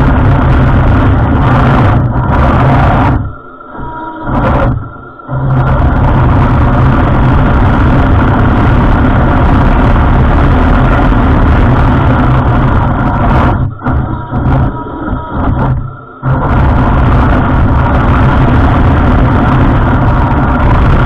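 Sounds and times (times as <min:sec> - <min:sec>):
drive motors running: 0:00.0 - 0:21.0
simulated engine noise: 0:00.0 - 0:21.0.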